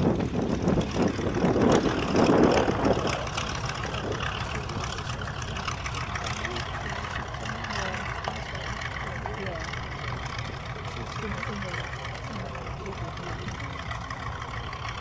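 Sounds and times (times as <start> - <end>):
radial engines droning: 0.0 - 15.0.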